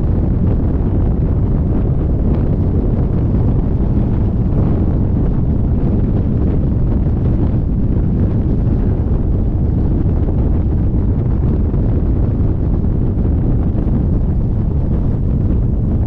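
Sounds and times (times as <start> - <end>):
airplane engine and propeller rumble: 0.0 - 16.0
wind buffeting microphone: 0.0 - 16.0.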